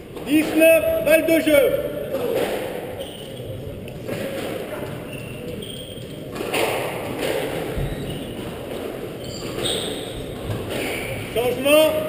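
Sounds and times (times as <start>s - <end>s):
echoing squash hall noise: 0.0s - 12.0s.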